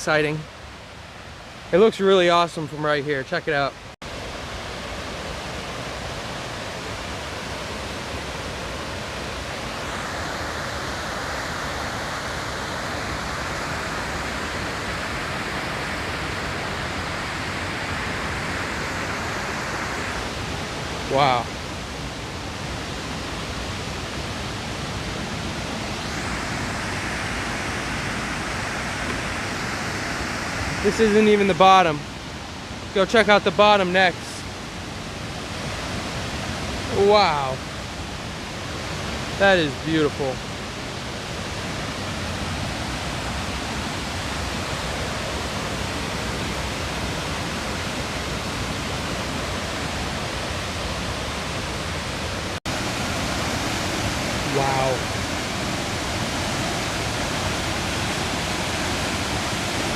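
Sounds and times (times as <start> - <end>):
rush of falling water: 0.0 - 59.9.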